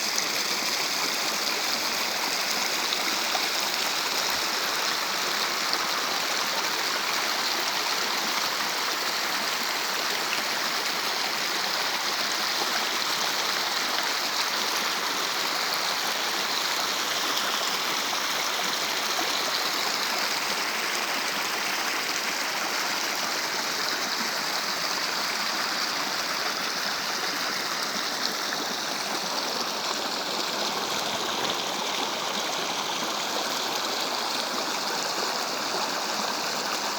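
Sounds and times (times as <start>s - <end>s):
stream flowing: 0.0s - 36.9s.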